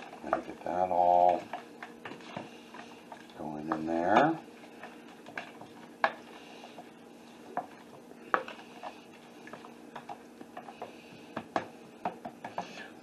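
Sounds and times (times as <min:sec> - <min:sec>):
stirring wet marinade: 0:00.0 - 0:13.0.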